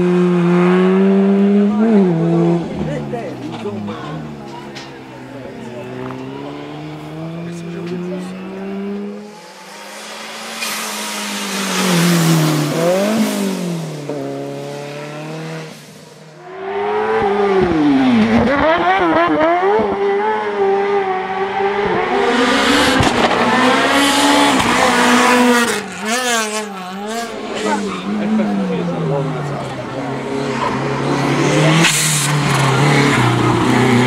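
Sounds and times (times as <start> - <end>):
car engines revving at full throttle: 0.0 - 34.0.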